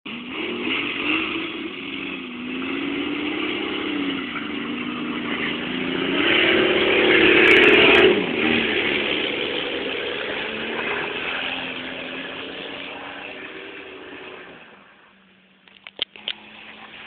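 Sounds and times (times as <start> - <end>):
diesel engine revving: 0.1 - 17.0.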